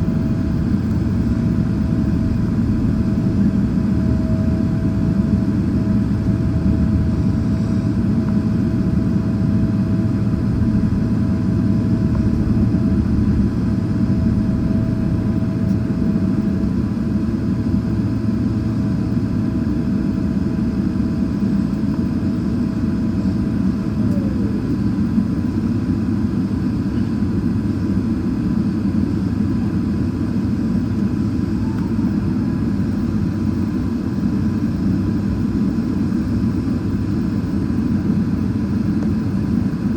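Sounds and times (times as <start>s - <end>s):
airliner low rumble: 0.0s - 39.9s
airliner whine: 0.0s - 39.9s.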